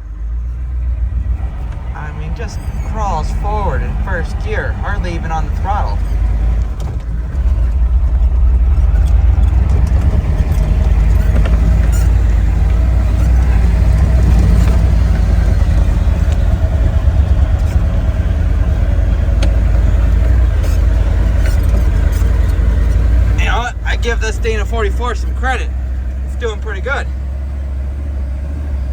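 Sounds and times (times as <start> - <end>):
diesel engine running at low revs: 0.0 - 28.9.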